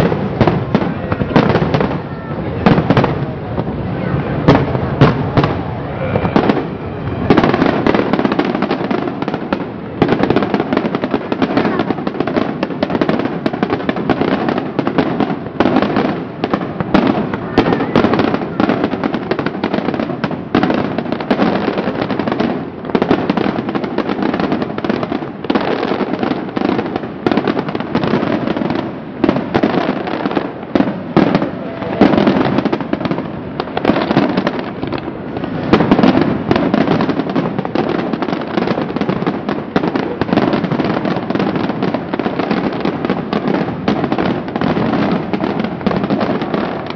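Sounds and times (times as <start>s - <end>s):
crackling firecrackers: 0.0s - 46.9s.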